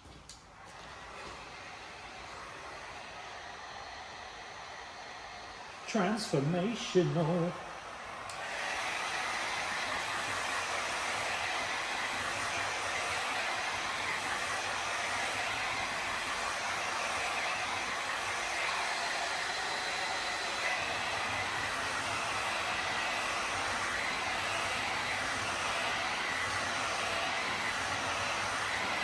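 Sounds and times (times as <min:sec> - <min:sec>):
heat gun blowing: 0:00.0 - 0:29.0.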